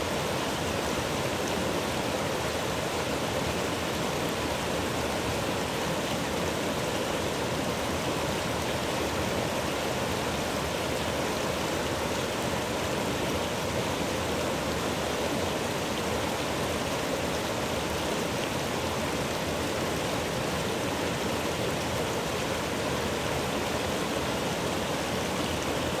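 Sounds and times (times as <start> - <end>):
stream rushing over boulders: 0.0 - 26.0.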